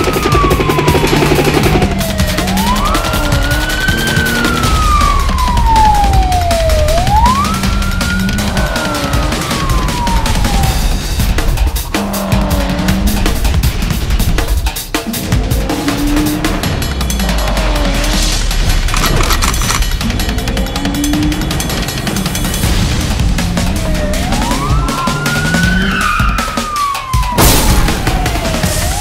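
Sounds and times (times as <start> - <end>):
speeding car sound effect: 0.0 - 27.4
energetic music with heavy beat: 0.0 - 29.0
siren wailing: 0.0 - 29.0.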